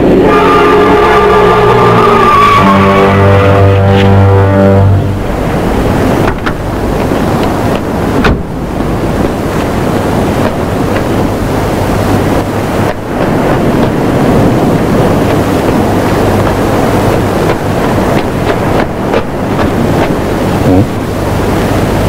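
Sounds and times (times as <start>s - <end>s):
sea surf rushing: 0.0s - 22.0s
wind: 0.0s - 22.0s.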